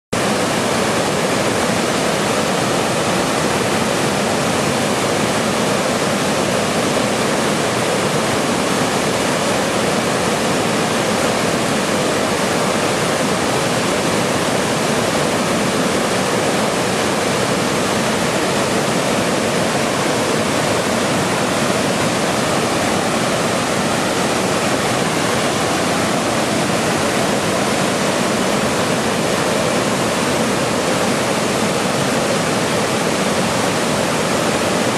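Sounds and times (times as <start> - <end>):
white noise hiss: 0.2 - 34.9.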